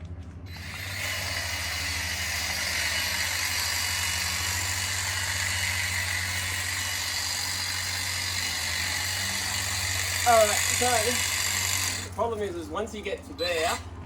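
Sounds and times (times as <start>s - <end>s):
low hum: 0.0s - 14.0s
hedge trimmer buzzing whir: 0.5s - 12.3s.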